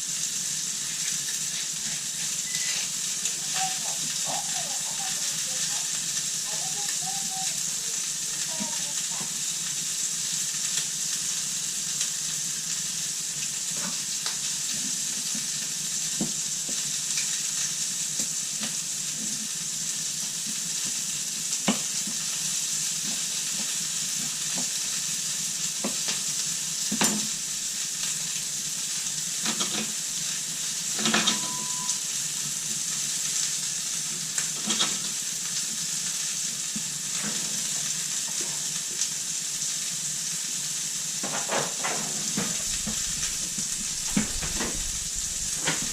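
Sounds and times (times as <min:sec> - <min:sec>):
food sizzling in a frying pan: 0:00.0 - 0:45.9.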